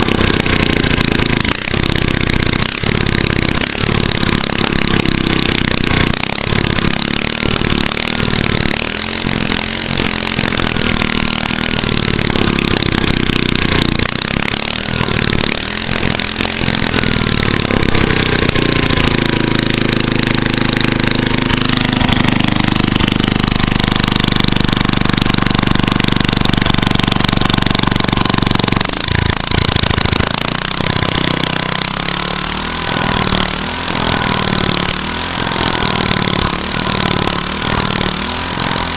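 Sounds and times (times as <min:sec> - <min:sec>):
loud unmuffled engine revving: 0:00.0 - 0:38.9.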